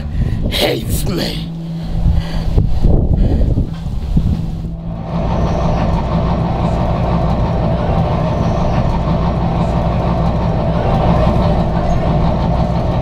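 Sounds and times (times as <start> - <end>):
bus engine hum and road rumble: 0.0 - 13.0.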